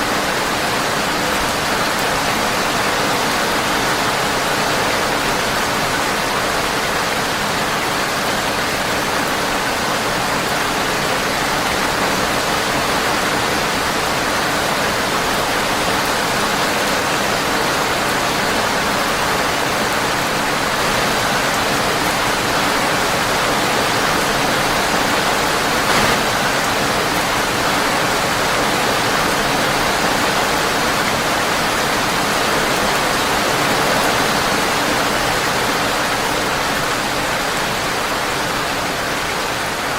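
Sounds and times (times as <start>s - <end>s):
rain tapping on a window: 0.1s - 39.8s.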